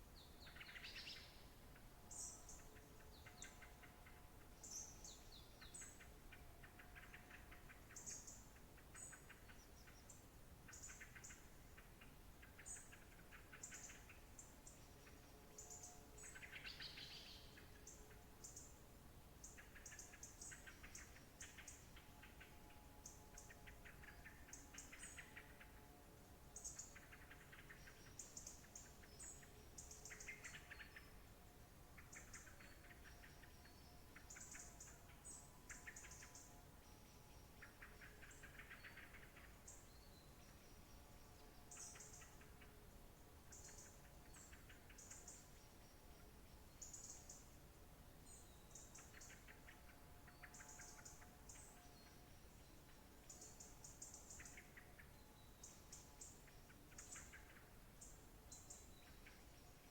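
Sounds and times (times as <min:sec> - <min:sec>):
faint birdsong: 0:00.0 - 0:59.9.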